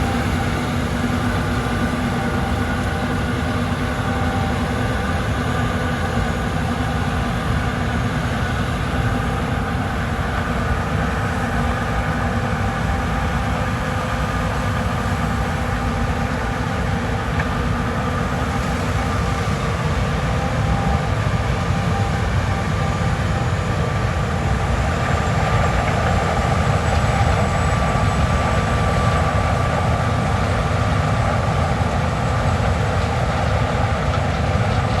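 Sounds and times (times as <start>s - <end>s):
combine harvester drone: 0.0s - 35.0s.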